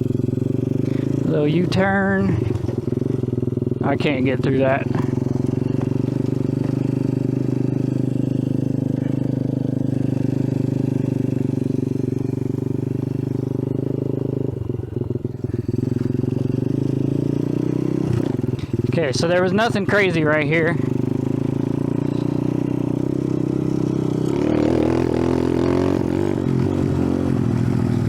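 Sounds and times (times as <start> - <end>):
mini bike engine running: 0.0 - 28.0.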